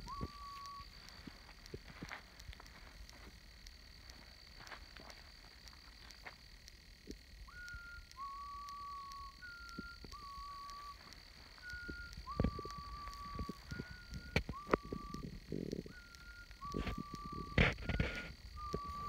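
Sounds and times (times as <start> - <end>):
sharp clicks: 0.0 - 19.0.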